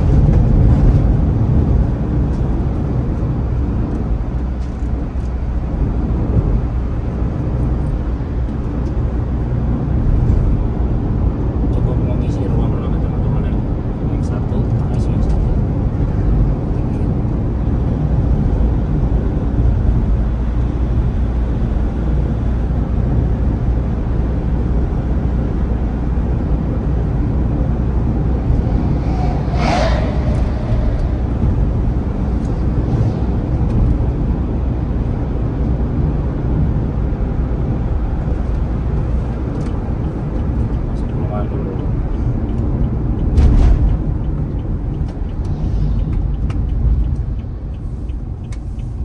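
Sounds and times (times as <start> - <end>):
van engine and road noise: 0.0 - 49.0.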